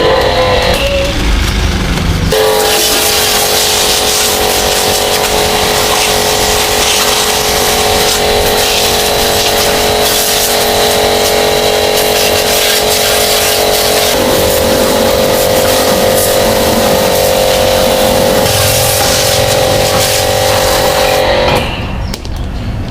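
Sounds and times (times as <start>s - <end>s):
pressure washer pump humming: 0.0s - 21.9s
water spray hissing: 2.3s - 21.4s.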